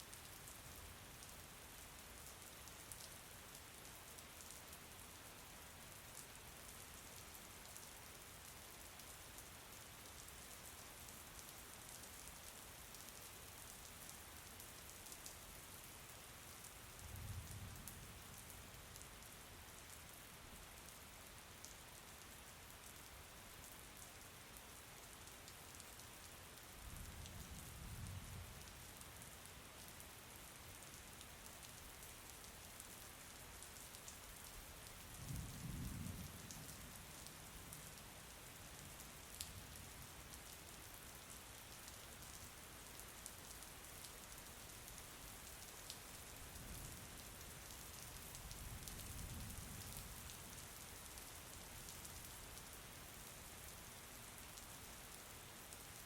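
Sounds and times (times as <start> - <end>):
faint rain falling: 0.0 - 56.0.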